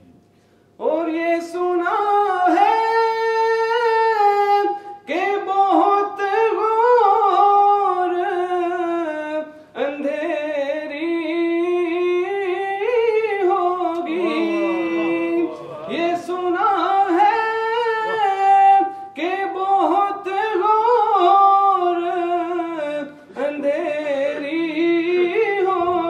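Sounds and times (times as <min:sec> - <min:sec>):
man singing unaccompanied: 0:00.8 - 0:26.0.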